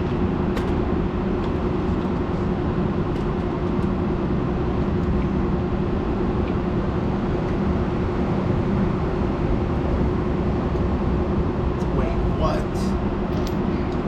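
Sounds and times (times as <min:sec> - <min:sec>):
low mechanical rumble with hum: 0:00.0 - 0:14.0.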